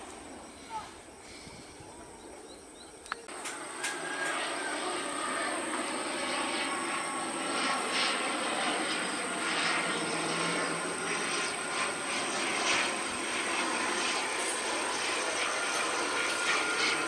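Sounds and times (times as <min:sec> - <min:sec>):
faint engine whine: 0:00.0 - 0:17.0
jet engines rushing: 0:00.0 - 0:17.0.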